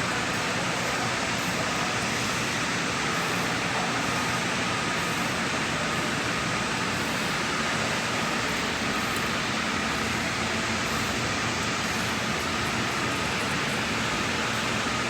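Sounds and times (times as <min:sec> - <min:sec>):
machine hiss and rumble: 0:00.0 - 0:15.0.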